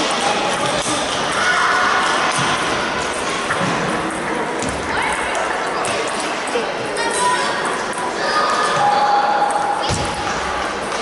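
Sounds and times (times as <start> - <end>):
sports hall clatter: 0.0 - 11.0.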